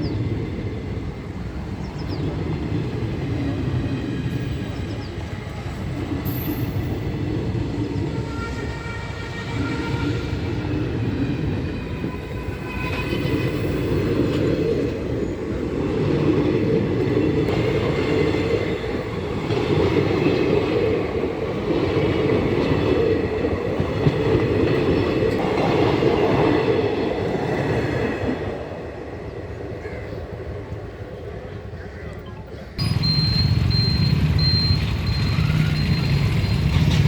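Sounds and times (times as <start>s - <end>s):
train wheels on rails: 0.0s - 31.7s, 32.7s - 37.0s.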